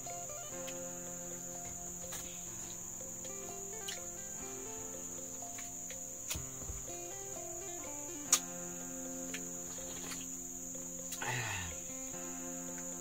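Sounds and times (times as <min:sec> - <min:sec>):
forest insects droning: 0:00.0 - 0:13.0
soft background music: 0:00.0 - 0:13.0.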